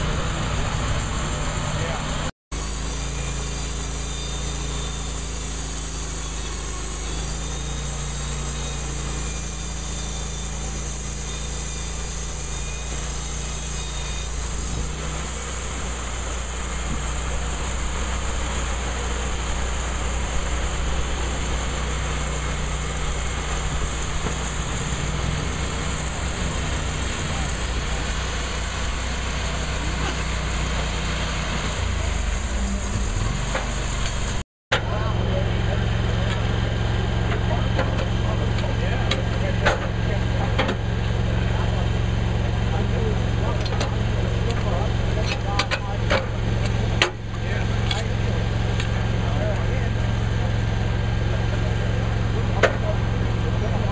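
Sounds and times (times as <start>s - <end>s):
band sawmill cutting log: 0.0s - 53.9s.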